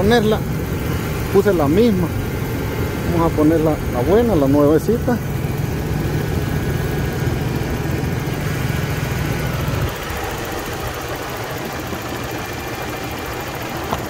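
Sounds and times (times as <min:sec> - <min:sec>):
car engine idling: 0:00.0 - 0:14.0
heavy low rumble: 0:00.0 - 0:14.0.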